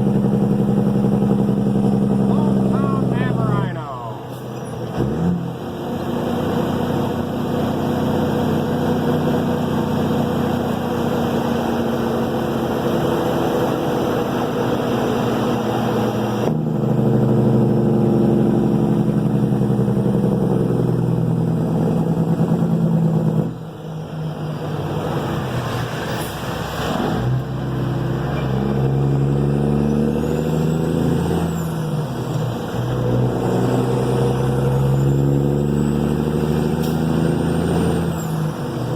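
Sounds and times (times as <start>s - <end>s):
diesel truck engine pulling: 0.0s - 38.9s.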